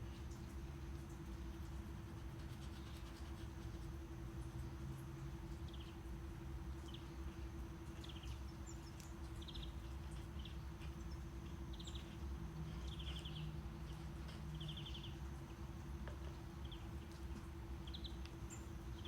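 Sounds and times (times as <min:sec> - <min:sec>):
faint steady hum: 0:00.0 - 0:19.0
low brown-noise rumble: 0:00.0 - 0:19.0.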